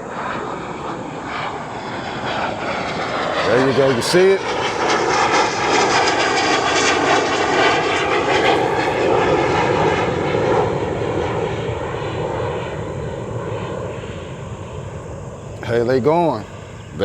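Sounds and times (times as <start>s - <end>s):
airplane engines passing: 0.0s - 17.0s.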